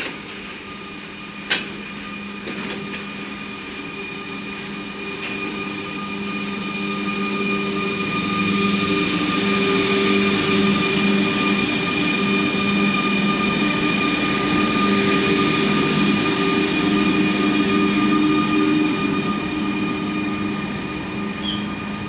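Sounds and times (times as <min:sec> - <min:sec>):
electric locomotive hum and whine: 0:00.0 - 0:22.0.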